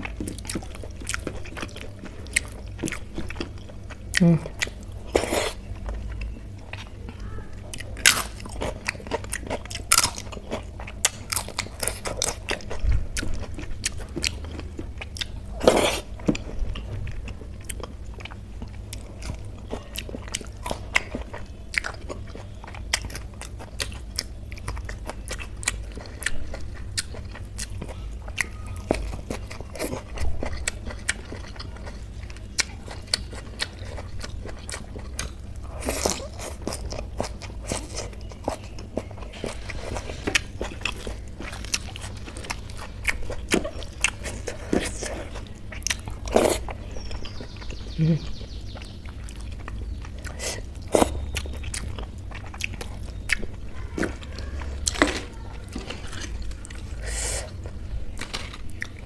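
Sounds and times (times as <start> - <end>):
close-miked chewing and crunching: 0.0 - 59.0.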